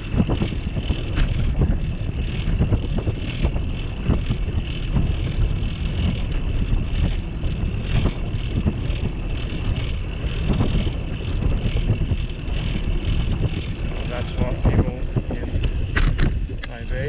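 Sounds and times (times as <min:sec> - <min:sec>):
bicycle rumble: 0:00.0 - 0:17.0
wind buffeting microphone: 0:00.0 - 0:17.0.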